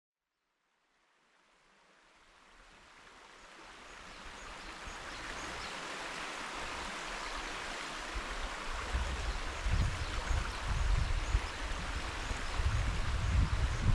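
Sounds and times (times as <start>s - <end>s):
river water rushing: 1.2s - 13.9s.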